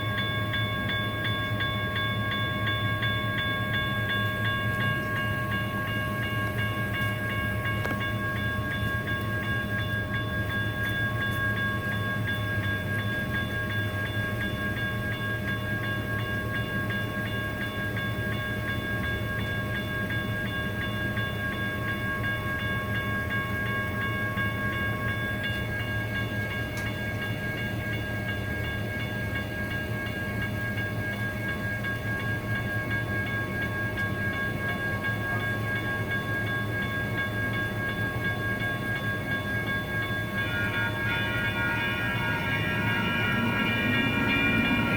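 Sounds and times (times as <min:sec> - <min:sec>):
crossing bells ringing: 0:00.0 - 0:44.9
train hum: 0:00.0 - 0:44.9.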